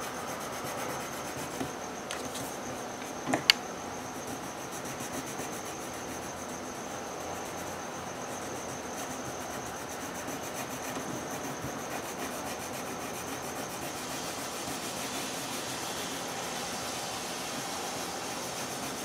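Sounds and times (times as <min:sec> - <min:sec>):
pencil scratching on paper: 0:00.3 - 0:02.6, 0:04.2 - 0:06.3, 0:07.4 - 0:16.9, 0:17.6 - 0:19.0.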